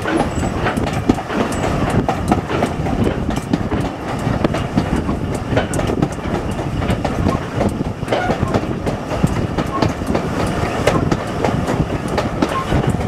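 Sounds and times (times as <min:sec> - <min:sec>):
irregular clicks and knocks: 0:00.0 - 0:13.0
wheels rumbling on rail: 0:00.0 - 0:13.0.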